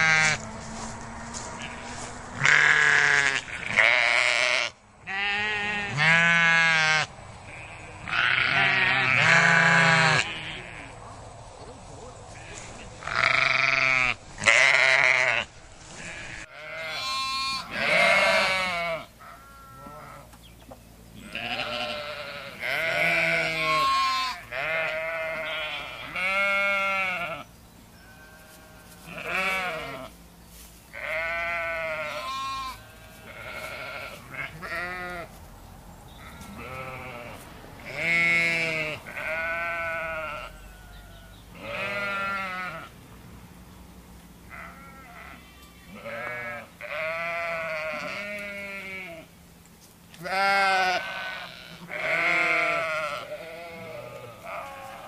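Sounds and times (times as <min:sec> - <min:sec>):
sheep bleating: 0:00.0 - 0:00.4, 0:01.3 - 0:11.0, 0:12.4 - 0:20.3, 0:21.2 - 0:30.2, 0:30.9 - 0:35.4, 0:36.2 - 0:42.9, 0:44.5 - 0:49.3, 0:50.2 - 0:55.0.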